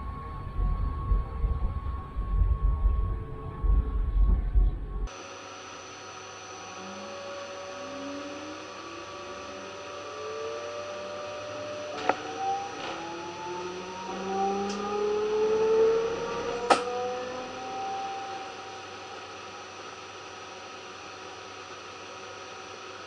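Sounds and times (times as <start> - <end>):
electric train whining: 0.0 - 23.0.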